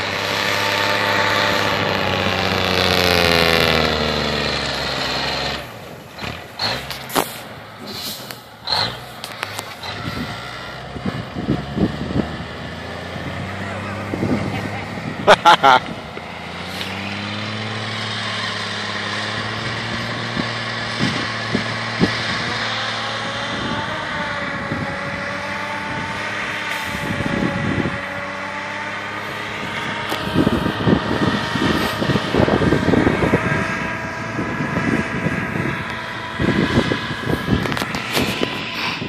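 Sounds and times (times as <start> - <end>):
truck engine running hard: 0.0 - 39.0.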